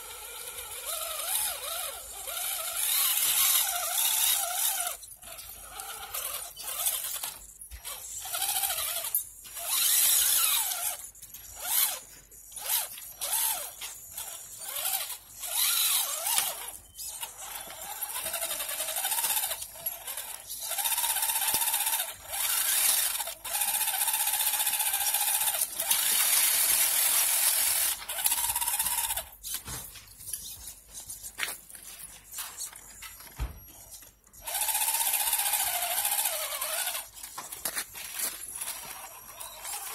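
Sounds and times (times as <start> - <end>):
toy car electric motor whining: 0.0 - 39.9.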